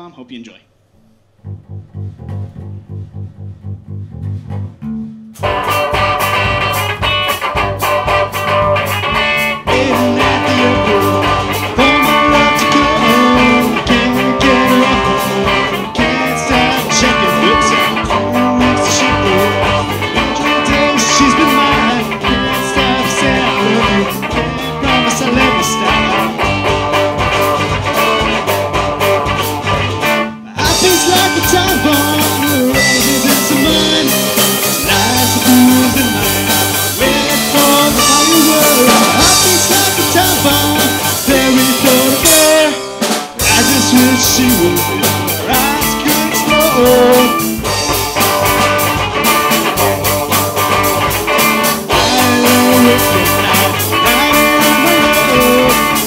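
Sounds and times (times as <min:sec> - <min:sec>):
live rock band playing: 0:01.7 - 0:56.0.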